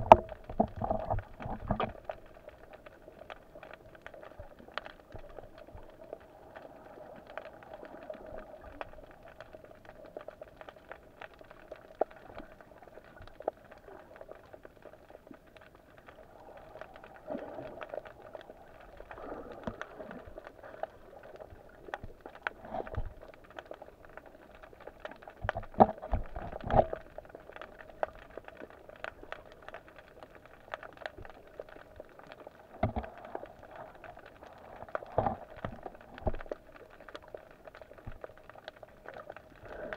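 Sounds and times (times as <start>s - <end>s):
small clicks and crackles: 0.0s - 39.9s.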